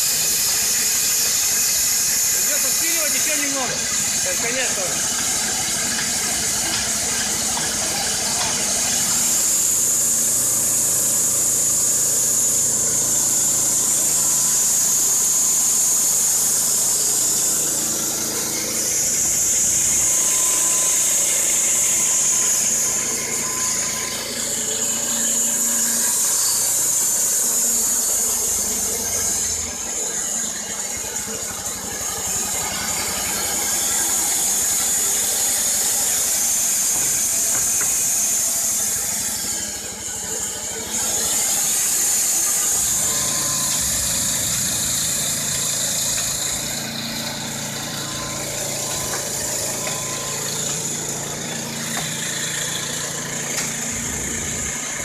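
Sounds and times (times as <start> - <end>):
petrol engine under load: 0.0 - 15.5, 16.4 - 55.0
saw blade squealing: 0.0 - 55.0.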